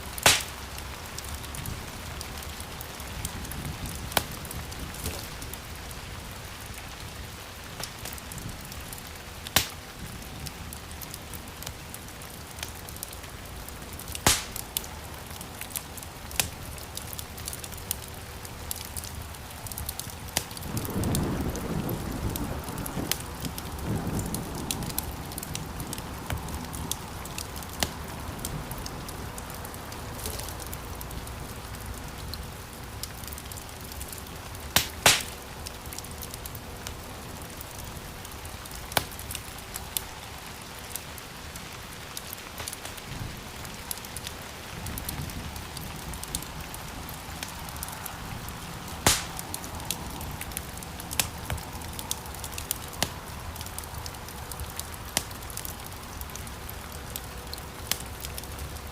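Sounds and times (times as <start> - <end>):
wood fire crackling: 0.0 - 58.9
loud pops of burning logs: 0.2 - 5.8, 7.8 - 28.2, 33.0 - 37.0, 38.2 - 41.1, 42.1 - 48.1, 48.9 - 58.9.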